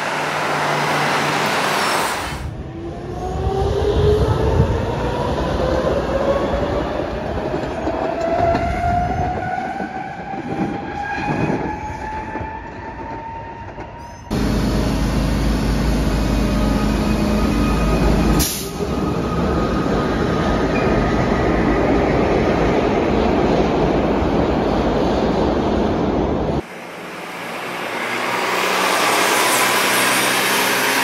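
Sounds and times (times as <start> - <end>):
subway train rumbling: 0.0 - 31.0.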